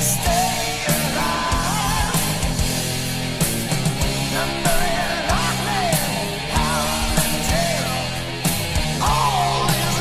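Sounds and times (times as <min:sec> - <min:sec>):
heavy metal instrumental: 0:00.0 - 0:10.0
wavering lead guitar melody: 0:00.0 - 0:10.0.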